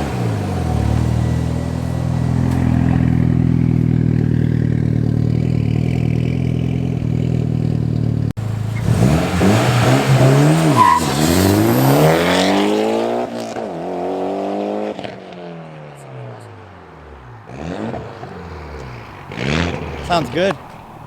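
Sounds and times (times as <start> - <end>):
car engine accelerating hard: 0.0 - 15.2, 17.4 - 21.0.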